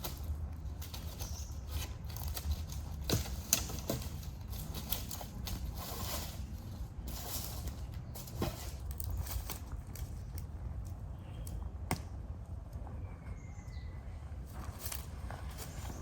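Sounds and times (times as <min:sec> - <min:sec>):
leaves and twigs crunching: 0:00.0 - 0:11.5, 0:14.4 - 0:16.0.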